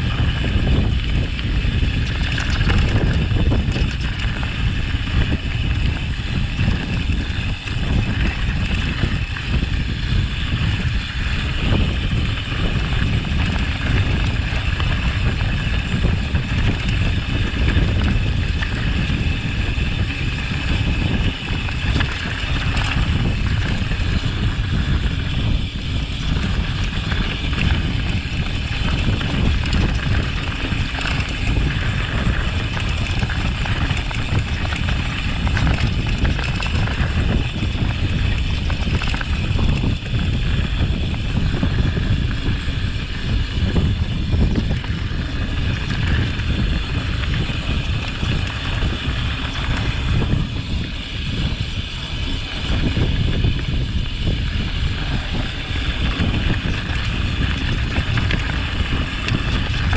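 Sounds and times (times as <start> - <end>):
bike rattling: 0.0 - 59.9
wind buffeting microphone: 0.0 - 59.9.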